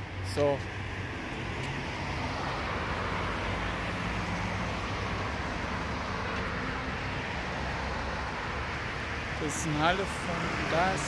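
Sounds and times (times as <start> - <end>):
car engines: 0.0 - 11.0
car tyres on asphalt: 0.0 - 11.0.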